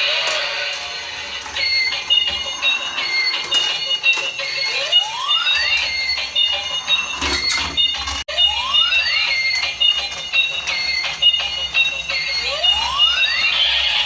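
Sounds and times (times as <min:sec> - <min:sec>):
high beeping toy tune: 0:01.2 - 0:14.0.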